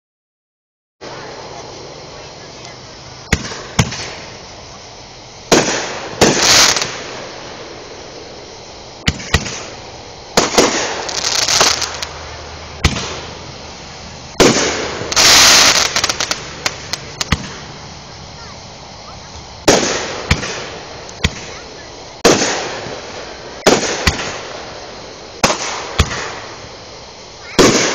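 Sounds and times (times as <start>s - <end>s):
fireworks crackling: 1.0s - 27.9s
fireworks bangs: 1.2s - 4.8s, 5.5s - 8.3s, 9.0s - 26.8s, 27.4s - 27.9s.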